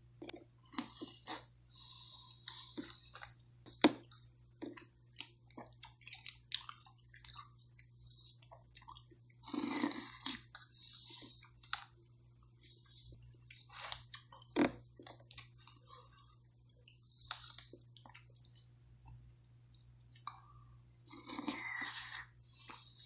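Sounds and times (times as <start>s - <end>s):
chewing and wet mouth sounds: 2.4s - 23.0s.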